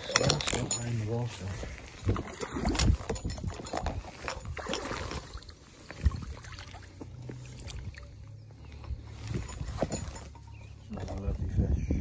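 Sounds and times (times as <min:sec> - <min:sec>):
water splashing and sloshing: 0:00.0 - 0:11.3.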